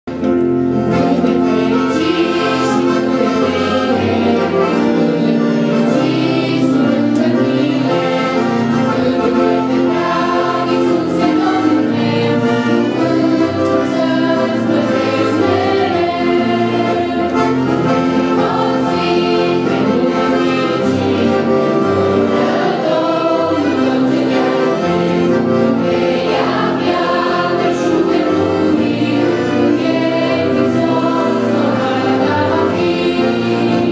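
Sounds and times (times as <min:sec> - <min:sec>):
piano accordion: 0:00.0 - 0:33.9
choir singing a hymn: 0:00.1 - 0:33.9.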